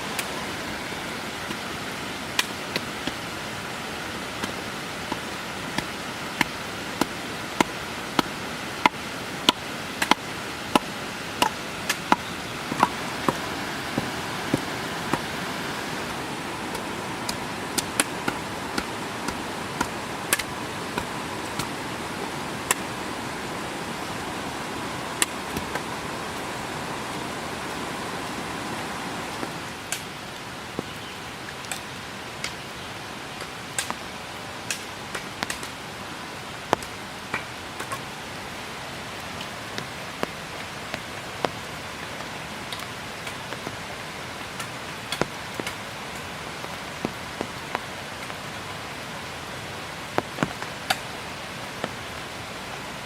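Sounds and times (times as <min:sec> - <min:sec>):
raindrops pattering close by: 0:00.0 - 0:53.0
steady rain hiss: 0:00.0 - 0:53.0.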